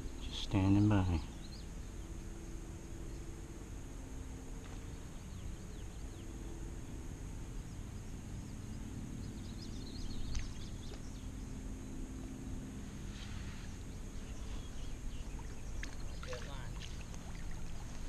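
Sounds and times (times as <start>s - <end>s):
faint bird chirps: 0.0s - 3.4s, 4.6s - 18.0s
outdoor background noise: 0.0s - 18.0s.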